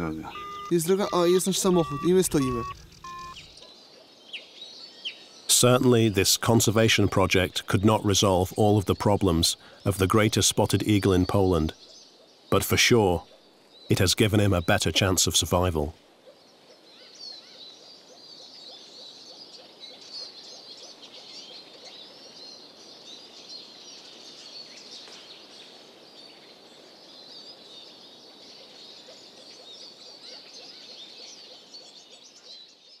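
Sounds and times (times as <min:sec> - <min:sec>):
faint outdoor hiss: 0:00.0 - 0:33.0
songbirds chirping and trilling: 0:00.0 - 0:33.0.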